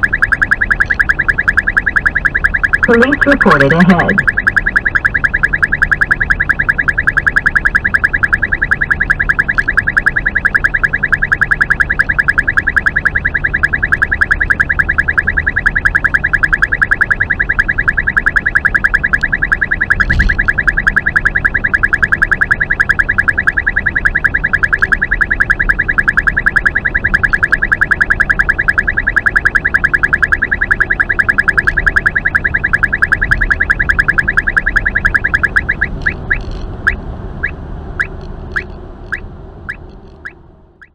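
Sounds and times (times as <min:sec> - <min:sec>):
rapid high-pitched beeps: 0:00.0 - 0:40.9.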